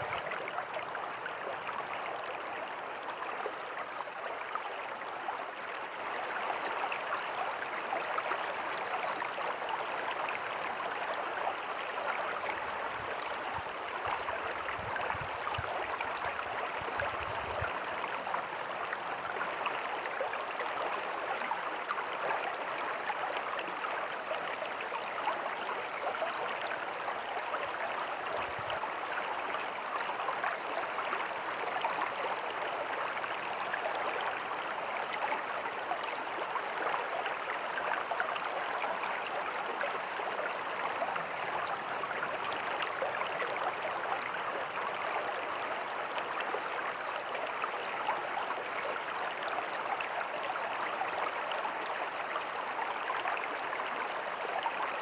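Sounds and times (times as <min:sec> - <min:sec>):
creek flowing over rocks: 0:00.0 - 0:55.0.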